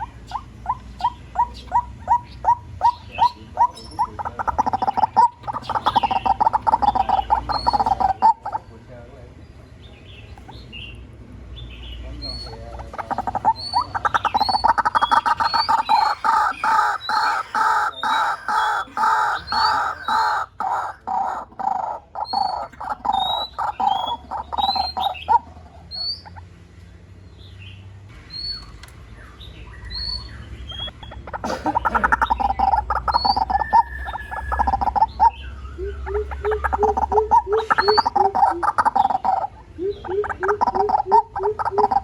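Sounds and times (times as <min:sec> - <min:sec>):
bird harsh repeated calls: 0:00.0 - 0:08.8, 0:11.7 - 0:26.5, 0:29.4 - 0:42.0
small birds chirping: 0:00.0 - 0:42.0.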